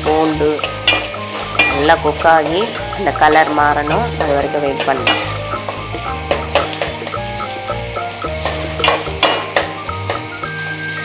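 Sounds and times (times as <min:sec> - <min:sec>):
food sizzling in oil: 0:00.0 - 0:11.0
soft background music: 0:00.0 - 0:11.0.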